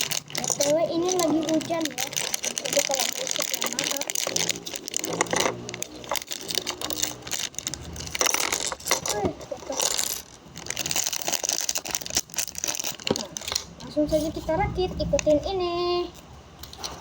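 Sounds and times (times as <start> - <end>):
plastic bricks clattering: 0.0 - 13.9.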